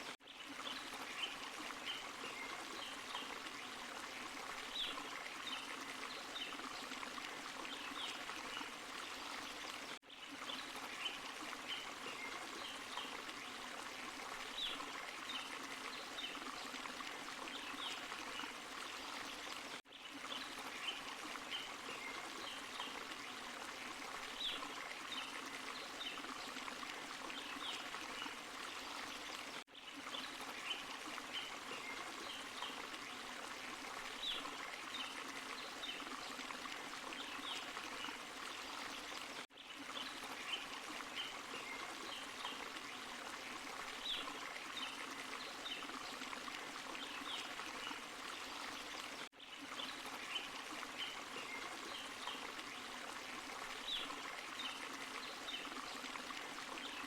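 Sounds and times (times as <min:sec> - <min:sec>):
stream splashing over rocks: 0:00.0 - 0:57.0.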